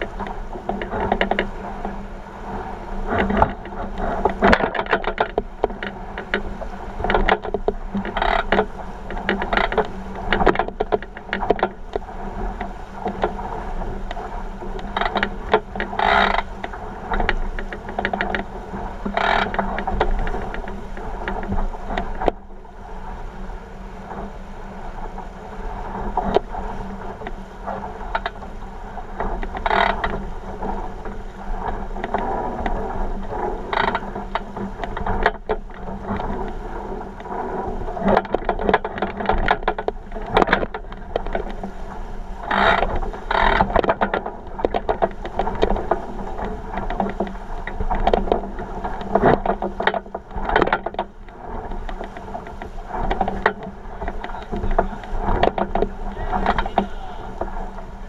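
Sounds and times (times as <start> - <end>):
water rushing along a hull: 0.0 - 58.0
wind on microphone: 0.0 - 58.0.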